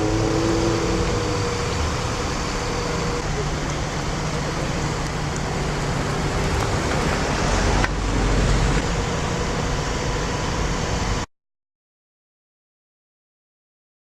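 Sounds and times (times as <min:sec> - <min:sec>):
car road and engine noise: 0:00.0 - 0:11.3.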